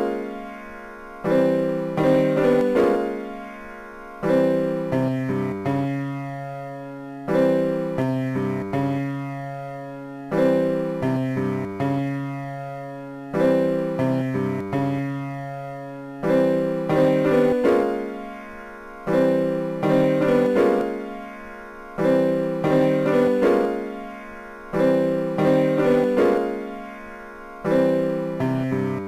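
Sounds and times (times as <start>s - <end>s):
slow keyboard melody: 0.0s - 29.0s.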